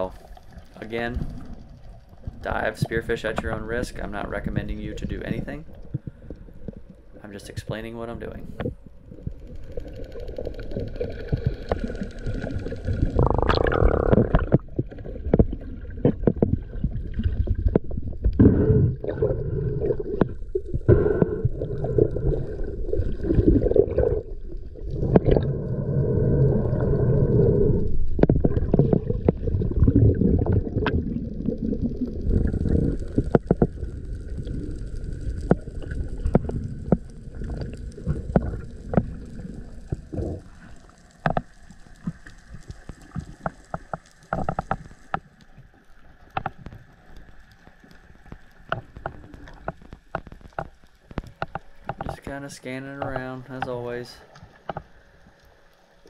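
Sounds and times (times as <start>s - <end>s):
muffled underwater rush: 0.0s - 45.1s.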